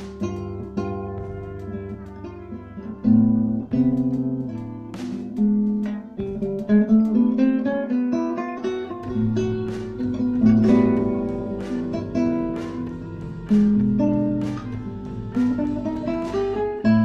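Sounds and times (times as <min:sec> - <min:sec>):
bass notes: 0:00.0 - 0:07.6, 0:09.0 - 0:17.0
guitar plucked notes: 0:00.0 - 0:17.0.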